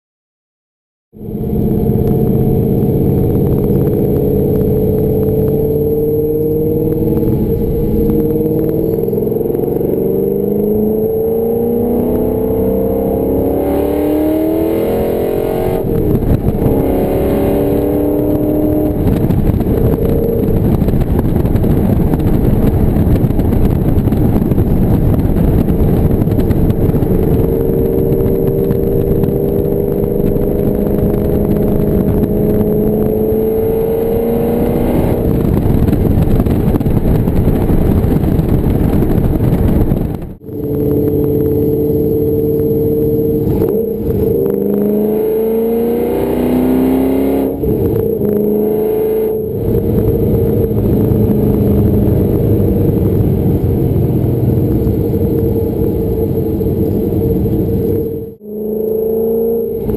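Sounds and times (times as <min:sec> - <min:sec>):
car engine accelerating: 0:01.1 - 0:59.9
road noise: 0:01.1 - 0:59.9.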